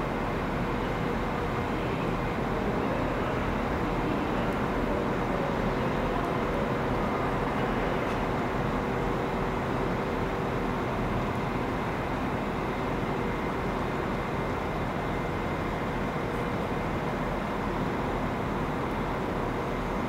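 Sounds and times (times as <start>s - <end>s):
faint steady hums: 0.0s - 20.0s
train rumble: 0.0s - 20.0s.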